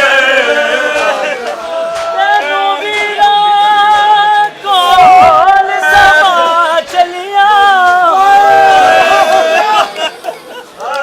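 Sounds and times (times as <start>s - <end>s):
voices singing a lament: 0.0s - 10.1s.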